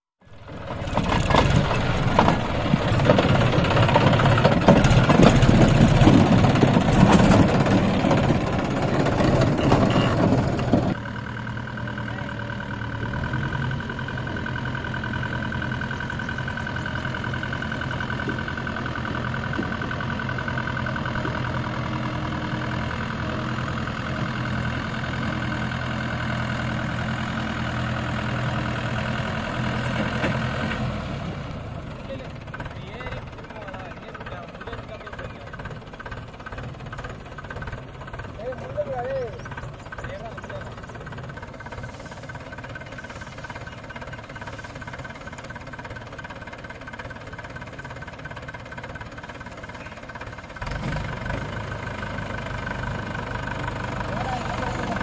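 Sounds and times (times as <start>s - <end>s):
tractor diesel engine at low revs: 0.0s - 55.0s.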